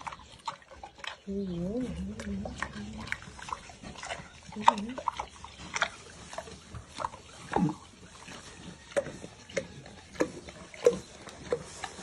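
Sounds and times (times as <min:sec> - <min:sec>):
pig chewing and smacking: 0:00.0 - 0:12.0.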